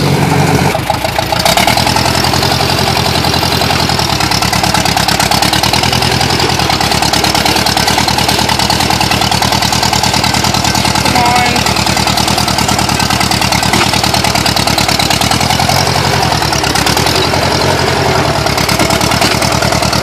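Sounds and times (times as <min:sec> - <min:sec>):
tractor engine running hard: 0:00.0 - 0:20.0.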